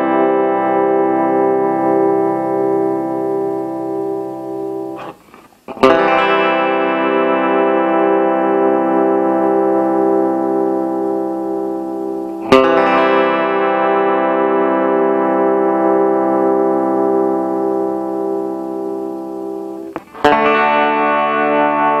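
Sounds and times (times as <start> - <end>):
electric guitar chord ringing: 0.0 - 22.0.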